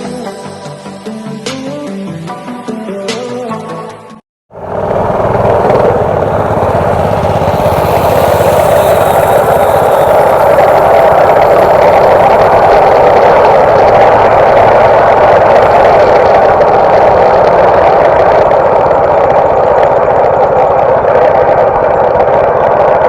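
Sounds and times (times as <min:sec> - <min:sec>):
small motorbike engine running: 0:04.5 - 0:23.0.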